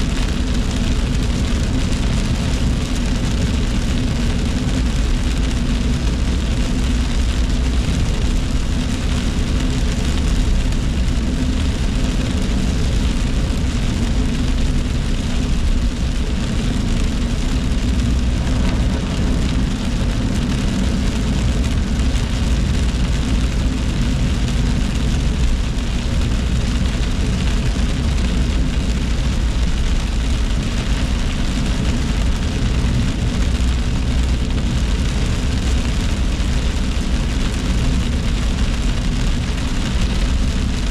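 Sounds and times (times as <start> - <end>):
rain on car: 0.0 - 40.9
road and engine noise: 0.0 - 40.9.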